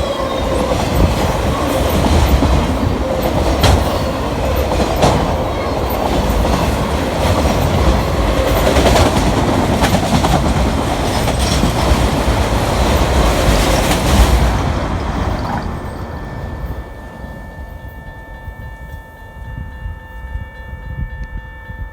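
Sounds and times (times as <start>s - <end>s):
wheels clacking over rail joints: 0.0s - 18.4s
freight train rumbling past: 0.0s - 21.1s.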